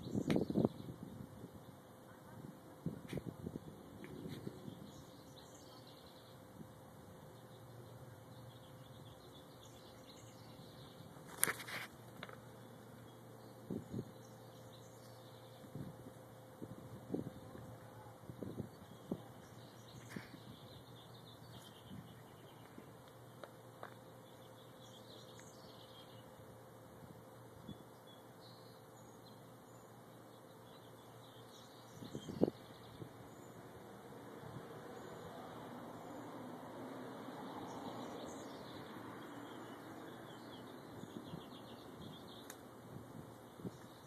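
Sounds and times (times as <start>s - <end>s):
steady outdoor hiss: 0.0s - 44.0s.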